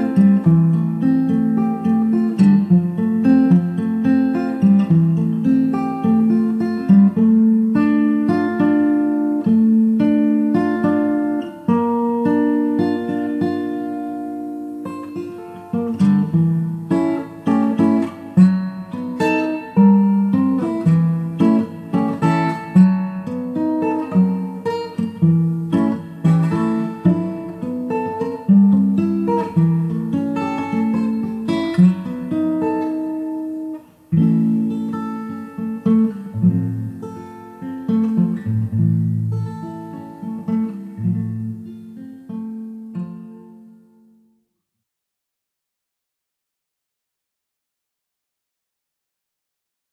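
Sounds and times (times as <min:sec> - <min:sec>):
plucked guitar melody: 0:00.0 - 0:44.4.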